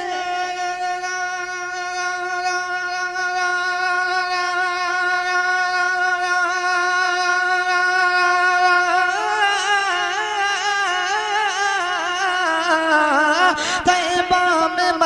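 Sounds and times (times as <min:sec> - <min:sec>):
man singing devotional melody: 0:00.0 - 0:15.0.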